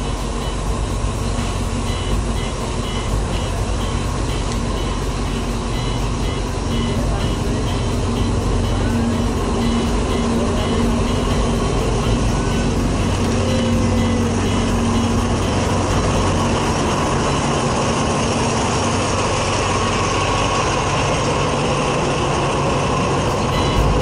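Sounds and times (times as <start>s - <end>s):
diesel locomotive engine running: 0.0s - 24.0s
train rumbling along track: 0.0s - 24.0s.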